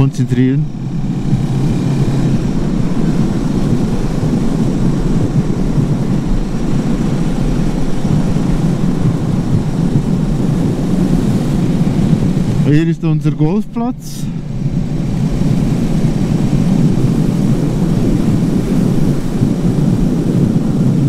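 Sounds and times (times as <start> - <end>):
motorcycle engine running: 0.0 - 21.0
wind rushing over microphone: 0.0 - 21.0.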